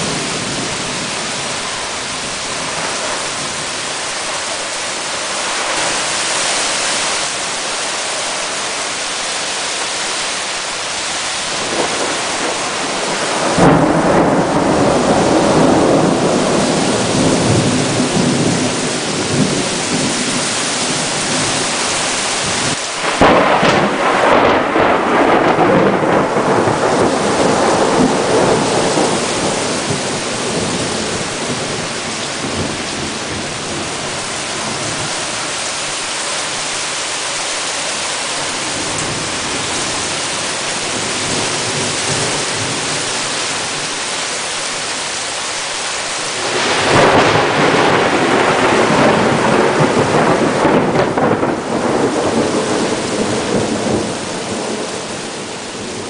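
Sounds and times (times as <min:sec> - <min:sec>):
heavy rain pouring down: 0:00.0 - 0:56.0.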